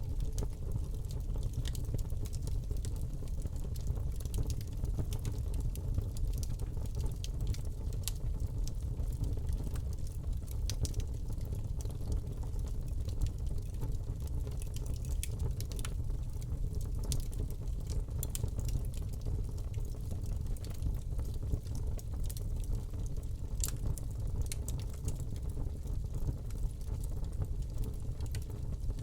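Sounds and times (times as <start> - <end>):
fire popping and snapping: 0.0 - 29.0
wood fire crackling: 0.0 - 29.0.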